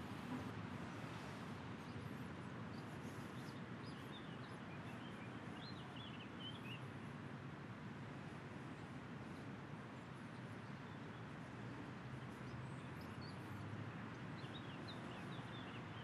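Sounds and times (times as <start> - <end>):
faint outdoor background noise: 0.0 - 16.0
small birds chirping: 1.0 - 7.1, 8.2 - 16.0.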